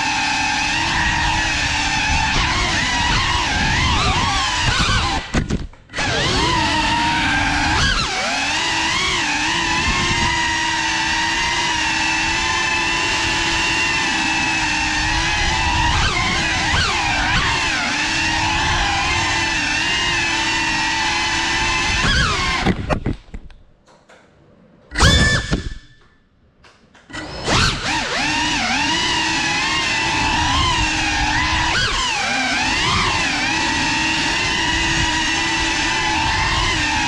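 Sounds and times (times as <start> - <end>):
quadcopter motors whining: 0.0 - 23.1, 24.9 - 25.9, 27.1 - 37.0.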